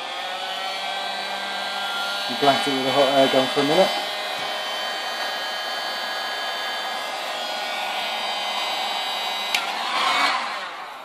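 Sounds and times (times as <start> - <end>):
hot air gun fan whine: 0.0 - 11.0.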